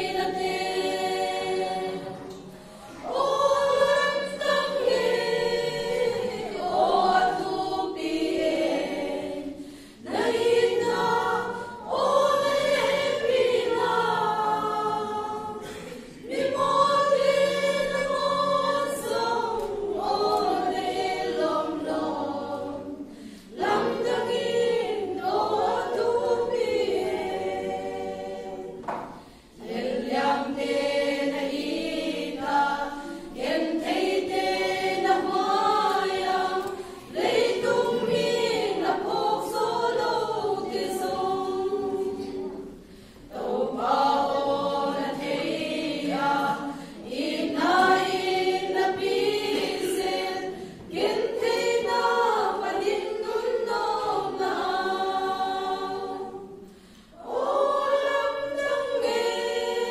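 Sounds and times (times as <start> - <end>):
women's choir singing a hymn: 0.0 - 59.9.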